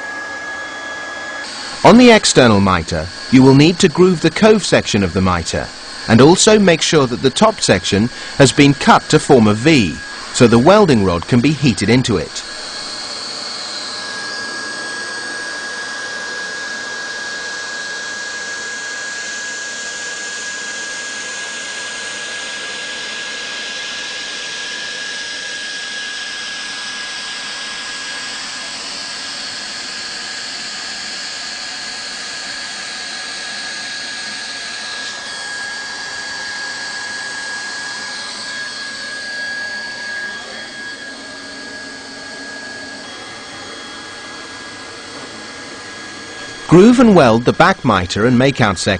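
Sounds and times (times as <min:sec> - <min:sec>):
hot-air welding gun blower: 0:00.0 - 0:48.9.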